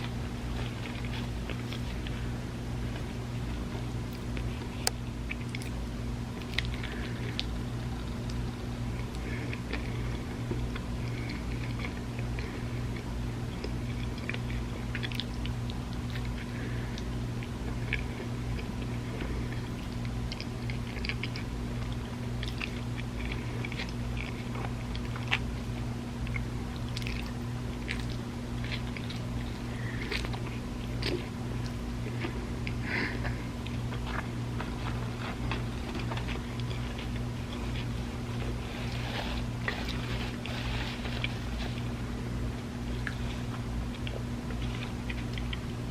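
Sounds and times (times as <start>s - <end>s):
low electrical hum: 0.0s - 45.9s
person chewing and crunching food: 0.0s - 45.9s.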